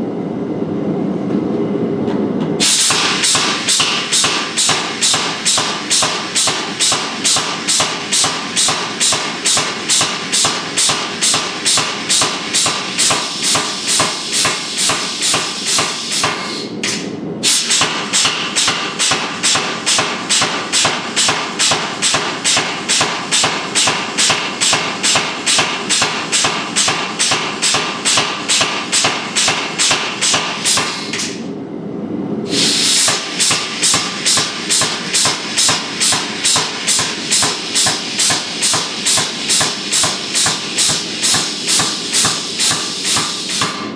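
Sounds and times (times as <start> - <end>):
hammer striking steel on anvil: 2.6 - 31.4, 33.0 - 43.9.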